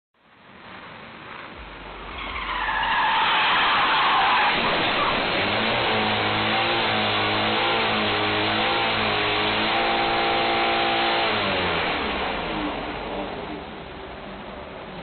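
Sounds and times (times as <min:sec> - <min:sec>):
car engine revving: 0:00.8 - 0:15.0.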